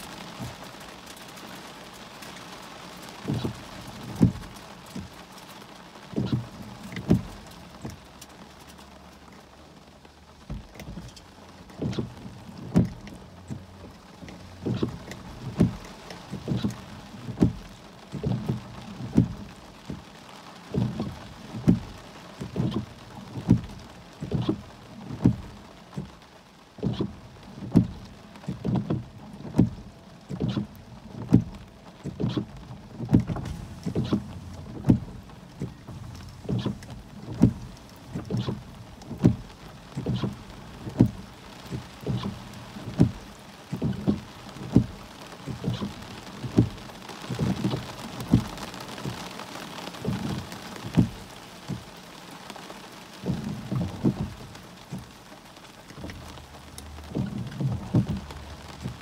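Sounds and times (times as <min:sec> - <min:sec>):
rain hiss: 0:00.0 - 0:59.0
raindrops thudding on vehicle: 0:00.0 - 0:59.0.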